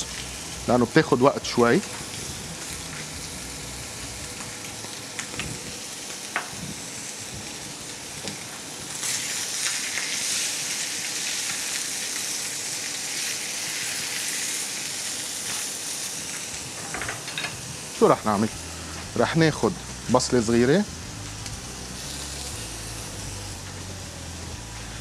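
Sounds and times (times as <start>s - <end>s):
meat sizzling in a frying pan: 0.0s - 25.0s.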